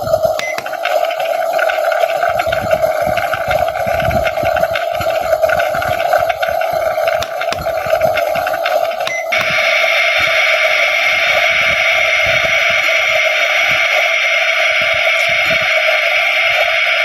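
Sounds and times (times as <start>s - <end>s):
toy electronic hum and hiss: 0.0s - 17.0s.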